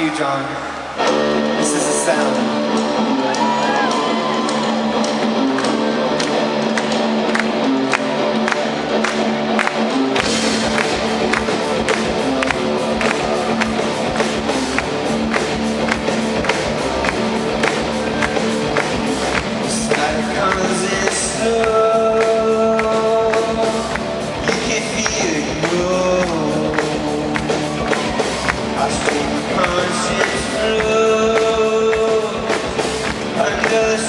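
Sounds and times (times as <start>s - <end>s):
live rock band playing: 0.0s - 34.0s
guitar chords: 0.6s - 34.0s
drum beat: 3.8s - 34.0s.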